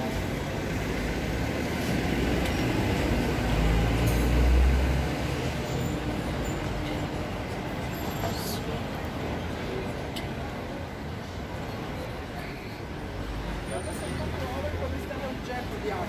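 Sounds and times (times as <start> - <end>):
heavy vehicle engine rumble: 0.0 - 15.0
city street traffic: 0.0 - 16.0.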